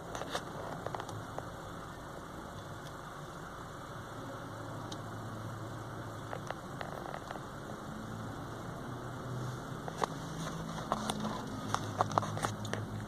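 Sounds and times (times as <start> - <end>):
car idling hum: 0.0 - 13.0.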